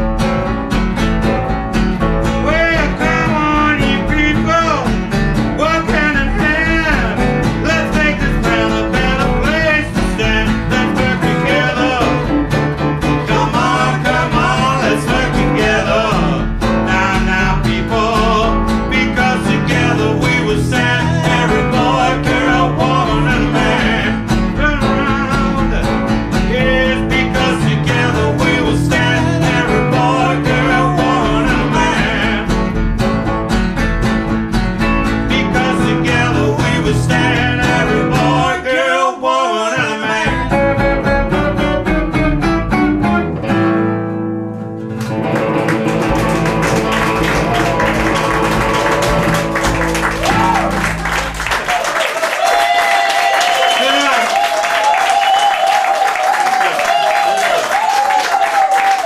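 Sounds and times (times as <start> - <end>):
bending lead guitar notes: 0.0 - 38.6, 40.0 - 51.7
blues band playing: 0.0 - 38.6, 39.8 - 52.6.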